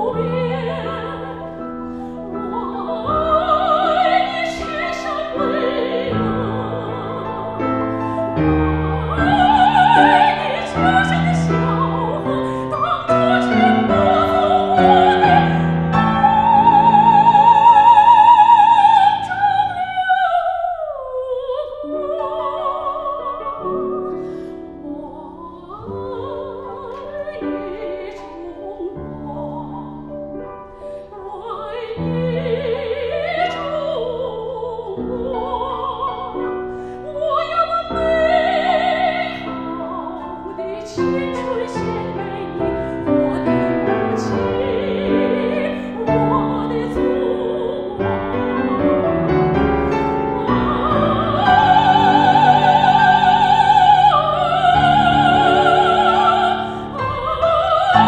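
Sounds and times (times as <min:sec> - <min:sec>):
grand piano accompaniment: 0:00.0 - 0:58.0
operatic soprano singing: 0:00.0 - 0:58.0.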